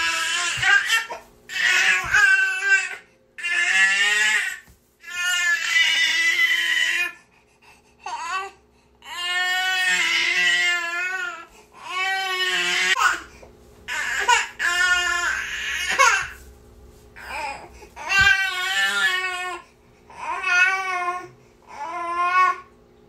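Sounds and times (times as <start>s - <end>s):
infant crying: 0.0s - 7.2s, 8.0s - 13.3s, 13.9s - 16.4s, 17.2s - 22.7s.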